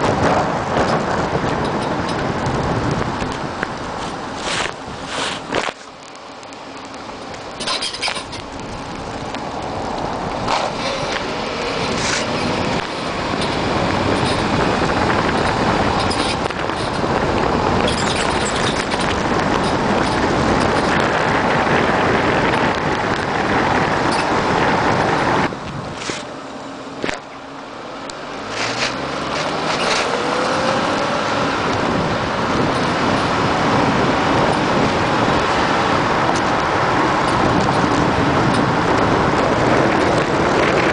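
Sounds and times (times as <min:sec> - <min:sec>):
road and tyre noise: 0:00.0 - 0:40.9
suspension creaking over bumps: 0:00.0 - 0:40.9.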